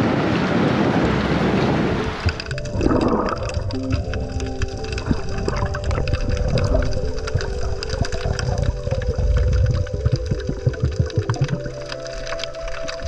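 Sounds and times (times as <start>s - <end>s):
underwater water rumble: 0.0s - 13.0s
background music with held tones: 1.0s - 13.0s.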